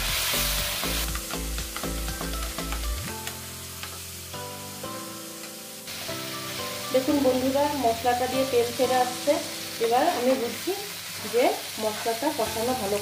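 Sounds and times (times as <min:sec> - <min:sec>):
background music: 0:00.0 - 0:13.0
paste sizzling in a frying pan: 0:00.0 - 0:13.0.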